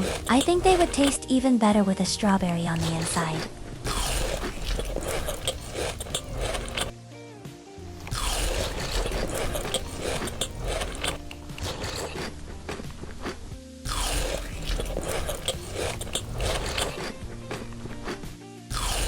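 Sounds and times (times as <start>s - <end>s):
chewing crunchy cookie: 0.0s - 1.2s, 2.2s - 7.0s, 8.1s - 19.0s.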